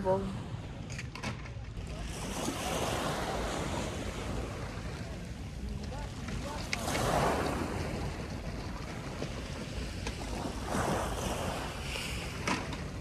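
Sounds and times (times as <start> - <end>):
sea waves washing onto shore: 1.7 - 13.0.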